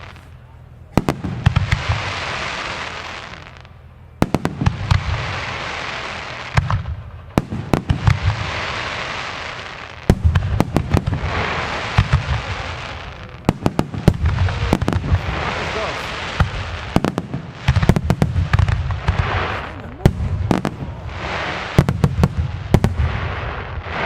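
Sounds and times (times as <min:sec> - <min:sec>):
fireworks bangs: 0:00.0 - 0:24.0
fireworks hissing: 0:00.0 - 0:24.0.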